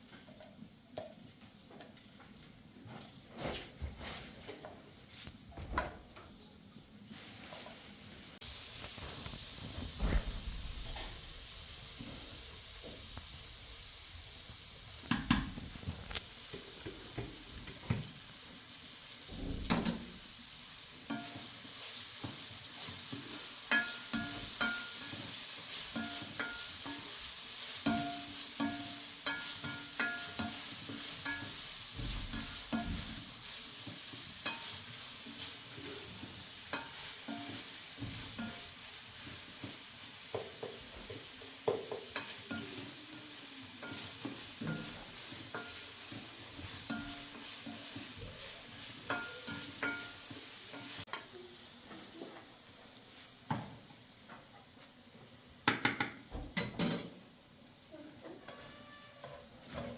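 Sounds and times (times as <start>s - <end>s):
steady hiss: 6.4s - 54.4s.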